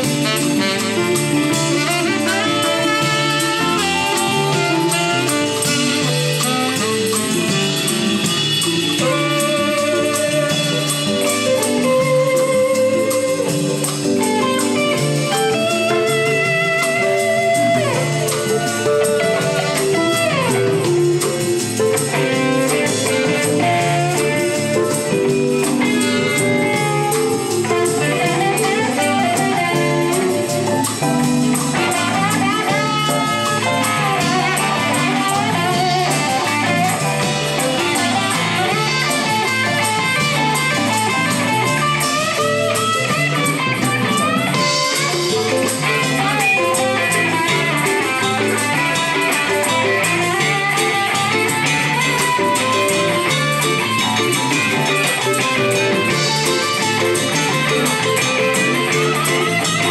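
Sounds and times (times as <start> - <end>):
bass groove: 0.0 - 59.9
blues-rock band playing: 0.0 - 59.9
lead guitar with bending notes: 0.0 - 59.9.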